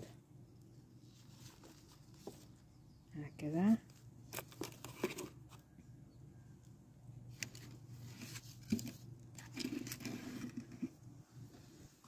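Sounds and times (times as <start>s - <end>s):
hands rustling potting soil: 0.0s - 5.8s, 7.2s - 12.0s.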